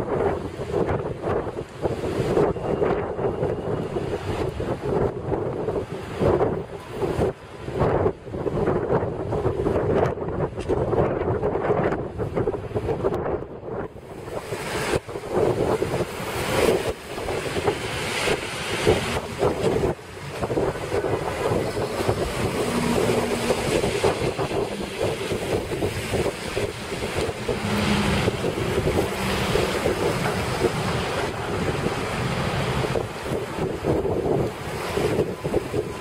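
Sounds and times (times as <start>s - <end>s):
outdoor street noise: 0.0s - 36.0s
wind buffeting microphone: 0.0s - 36.0s.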